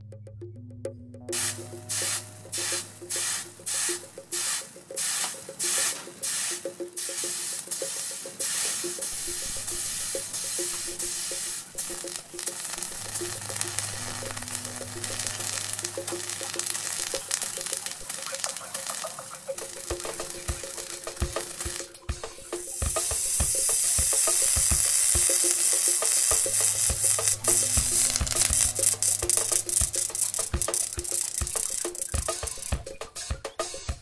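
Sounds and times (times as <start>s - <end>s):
quiet background music: 0.0s - 34.0s
water drops sizzling on hotplate: 1.4s - 32.8s.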